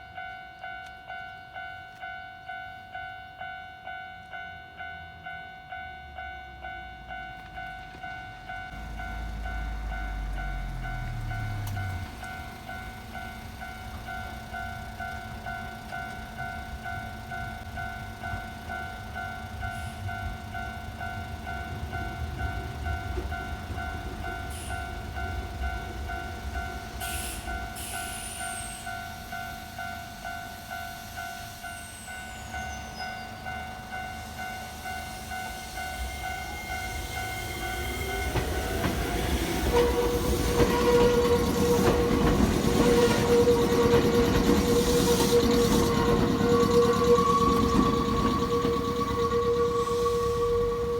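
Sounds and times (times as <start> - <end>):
train wheels rumbling and clattering: 6.5 - 30.6, 32.6 - 50.9.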